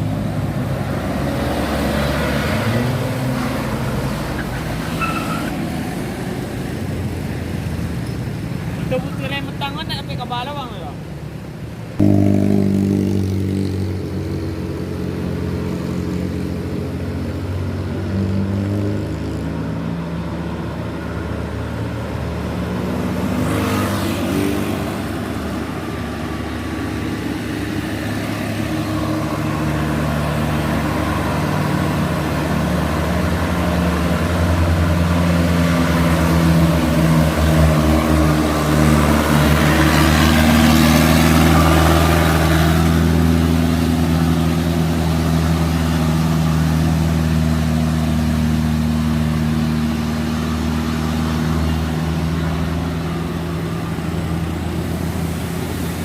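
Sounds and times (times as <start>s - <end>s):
truck diesel engine climbing: 0.0s - 56.0s.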